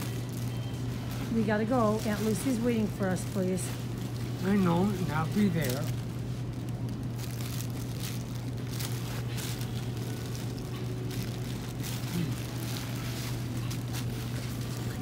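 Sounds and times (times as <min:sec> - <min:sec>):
plastic bags crinkling: 0:00.0 - 0:15.0
steady low hum: 0:00.0 - 0:15.0.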